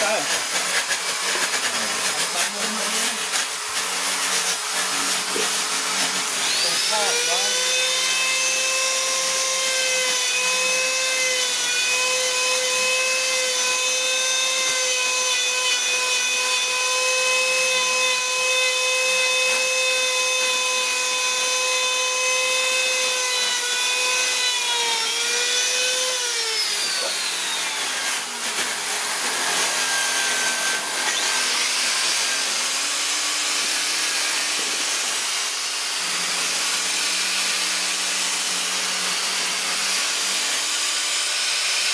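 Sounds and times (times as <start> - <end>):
rotary tool grinding wood: 0.0 - 41.9.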